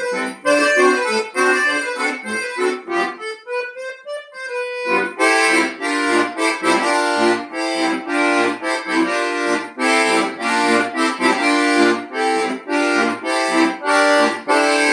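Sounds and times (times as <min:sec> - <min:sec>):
accordion playing lively tune: 0:00.0 - 0:14.9.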